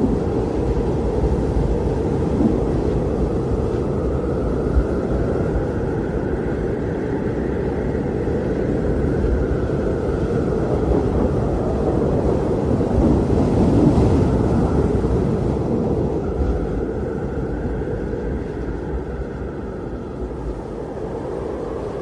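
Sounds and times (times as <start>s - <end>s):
blizzard wind rushing: 0.0s - 22.0s
high wind whistle: 0.0s - 22.0s.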